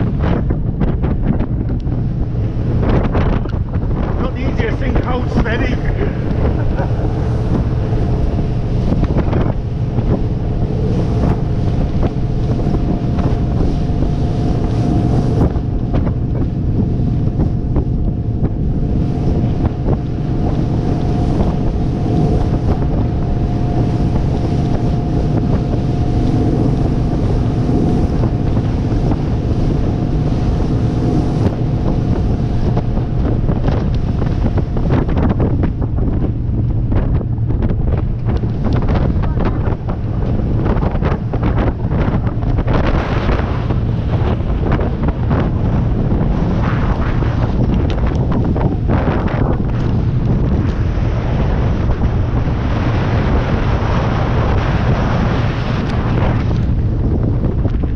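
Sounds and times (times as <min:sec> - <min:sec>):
motorboat engine drone: 0:00.0 - 0:57.9
water rushing along hull: 0:00.0 - 0:57.9
wind buffeting microphone: 0:00.0 - 0:57.9.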